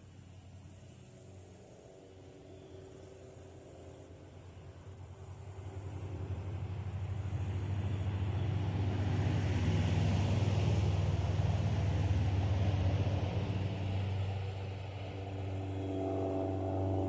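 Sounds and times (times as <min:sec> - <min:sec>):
vehicle engine driving past: 0:01.8 - 0:17.0.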